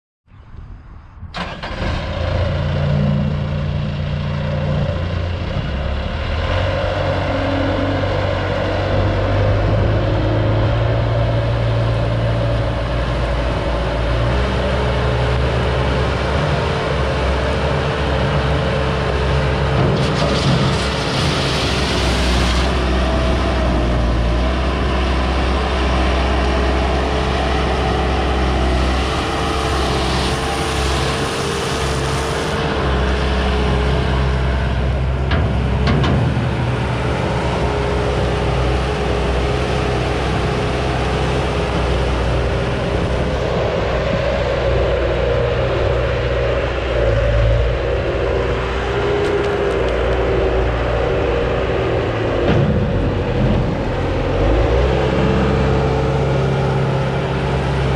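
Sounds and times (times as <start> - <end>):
diesel engine running: 1.3 - 57.9
steady whine: 7.1 - 57.9.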